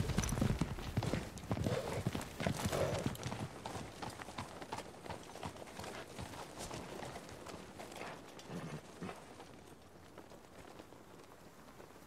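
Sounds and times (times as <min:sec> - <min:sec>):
horse hoofbeats on hard ground: 0:00.0 - 0:12.0.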